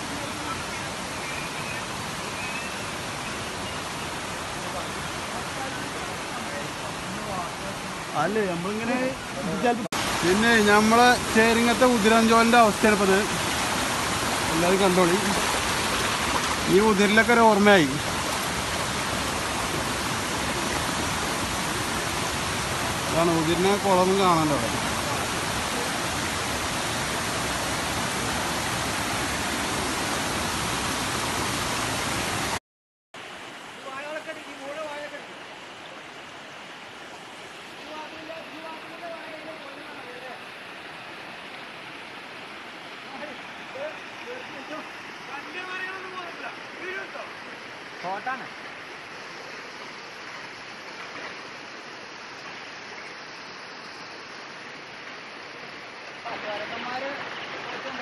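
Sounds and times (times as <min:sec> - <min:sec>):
water rushing over rocks: 0:00.0 - 0:32.6, 0:33.2 - 0:58.0.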